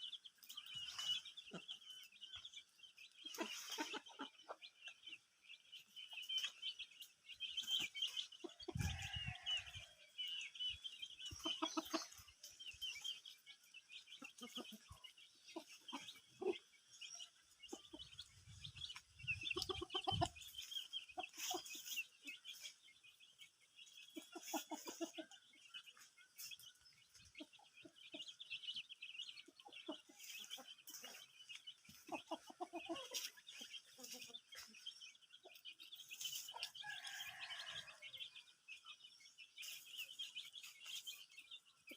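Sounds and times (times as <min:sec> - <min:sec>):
chickens clucking: 0:00.0 - 0:41.9
high chirping of chicks: 0:00.0 - 0:41.9.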